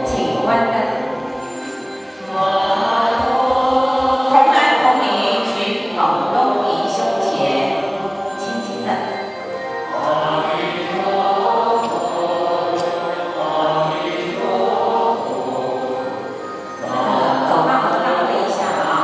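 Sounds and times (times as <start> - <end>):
group chanting in unison: 2.2 - 19.0.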